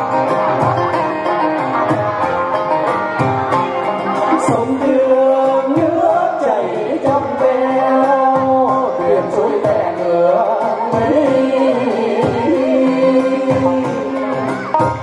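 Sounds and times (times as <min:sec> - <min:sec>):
repeated drum beats: 0:00.0 - 0:15.0.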